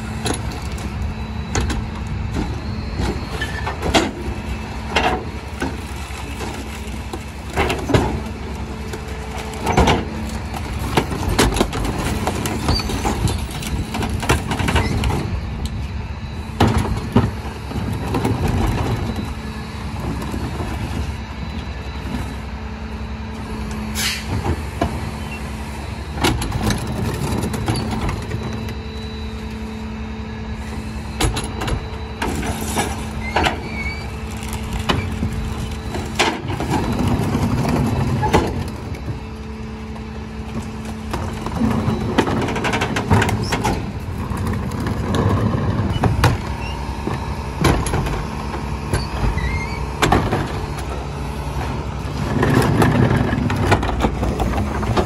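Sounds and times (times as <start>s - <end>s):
garbage truck humming: 0.0s - 55.0s
trash carts banging and rattling: 0.0s - 55.0s.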